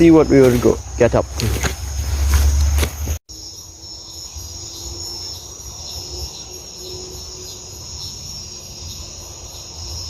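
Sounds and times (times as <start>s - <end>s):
crickets trilling: 0.0s - 10.0s
insects pulsing: 0.0s - 10.0s.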